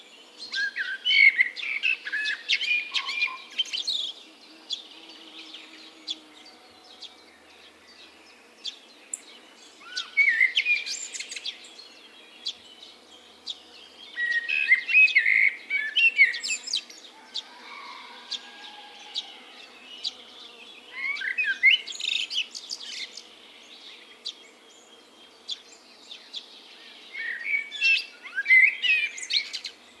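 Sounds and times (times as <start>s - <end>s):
songbirds chirping and twittering: 0.0s - 30.0s.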